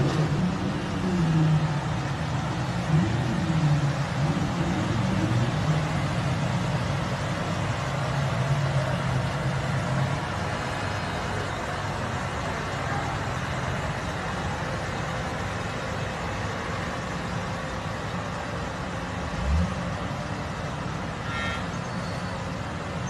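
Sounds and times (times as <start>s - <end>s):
street traffic noise: 0.0s - 23.0s
vehicle engine running: 0.0s - 23.0s.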